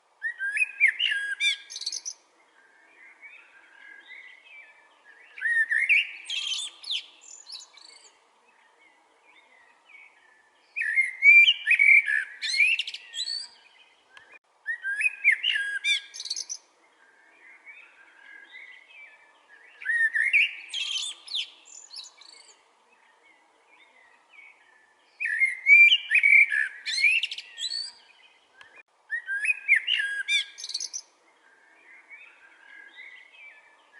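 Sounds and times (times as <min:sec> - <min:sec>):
soft bird calls: 0:00.0 - 0:33.9
songbird twittering song: 0:00.2 - 0:33.9.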